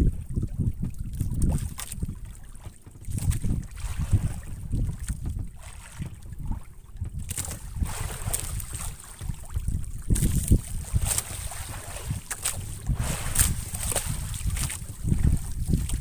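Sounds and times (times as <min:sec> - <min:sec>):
water splashing against hull: 0:00.0 - 0:16.0
wind buffeting microphone: 0:00.0 - 0:16.0.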